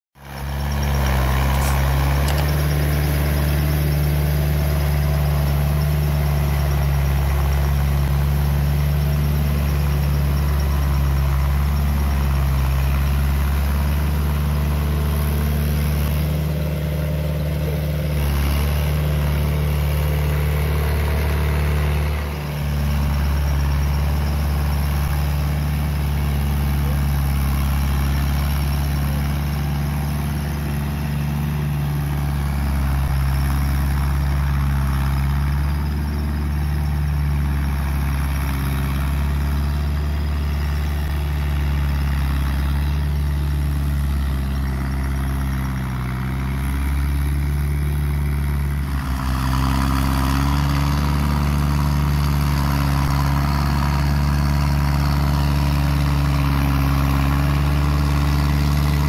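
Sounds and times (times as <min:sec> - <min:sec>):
tractor diesel engine running: 0:00.2 - 0:59.0.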